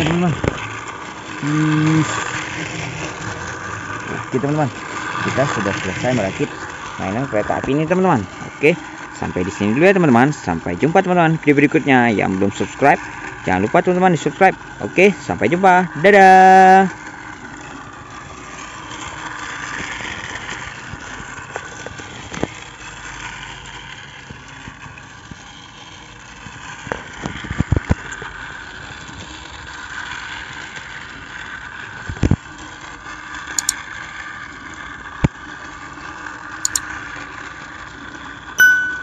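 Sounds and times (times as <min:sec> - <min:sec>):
toy train motor whirring: 0:00.0 - 0:38.9.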